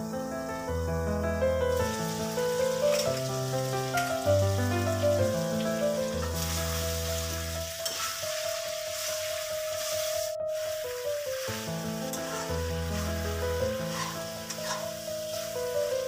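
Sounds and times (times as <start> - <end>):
meat sizzling in a wok: 0.0 - 16.0.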